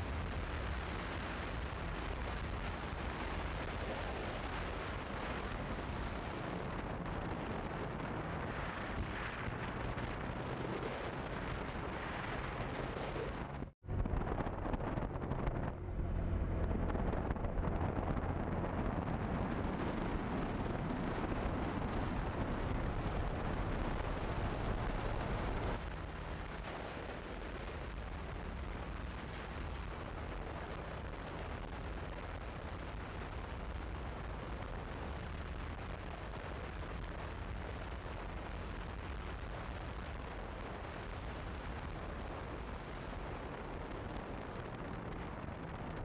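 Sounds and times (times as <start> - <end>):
wind rushing over microphone: 0.0 - 46.0.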